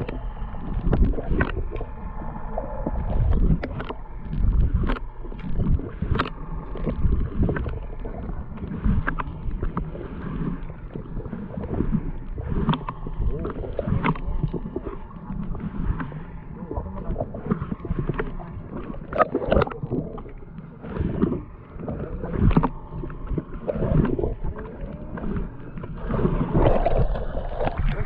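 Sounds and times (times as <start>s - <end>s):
water against boat hull: 0.0s - 28.0s.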